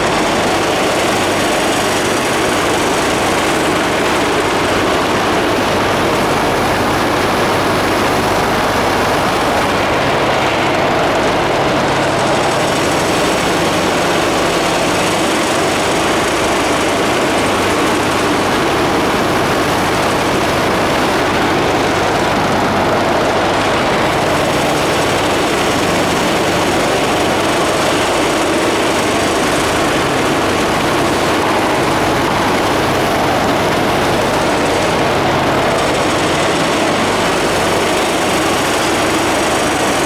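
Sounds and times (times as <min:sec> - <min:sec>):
packing machinery running: 0:00.0 - 0:40.0.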